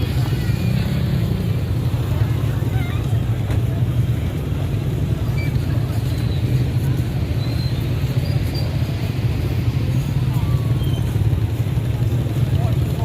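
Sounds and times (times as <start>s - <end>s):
crowd noise: 0.0s - 13.0s
traffic noise: 0.0s - 13.0s.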